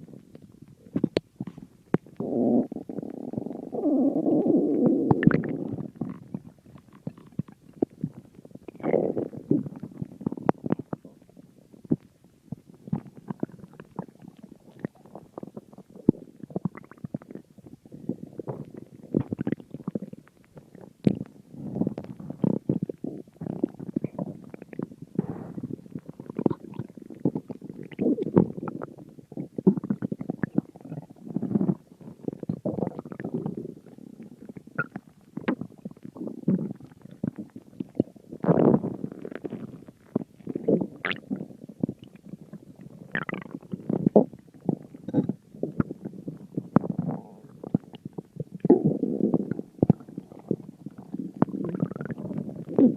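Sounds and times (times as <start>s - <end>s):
stomach growling: 0.0s - 52.9s.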